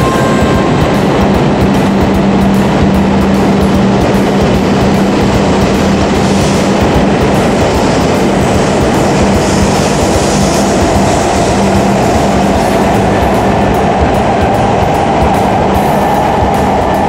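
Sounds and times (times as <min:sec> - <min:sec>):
train running past platform: 0:00.0 - 0:17.0.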